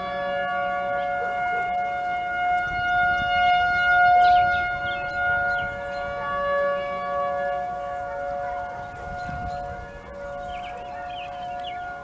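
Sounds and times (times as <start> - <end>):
higher steady siren tone: 0.0 - 12.0
warning sirens clashing pitches: 0.0 - 12.0.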